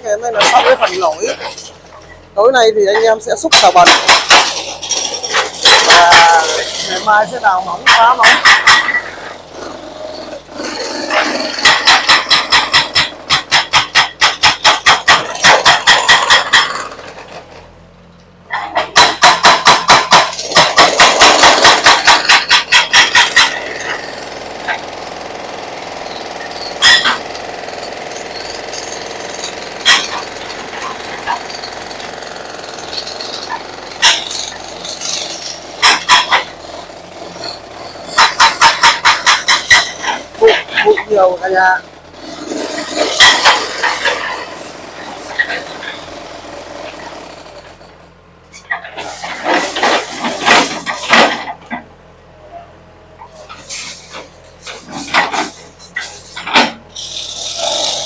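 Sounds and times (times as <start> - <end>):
excavator engine running: 0.0 - 58.0
hydraulic breaker hammering concrete: 0.1 - 17.5, 18.5 - 48.0, 48.6 - 52.0, 53.2 - 58.0.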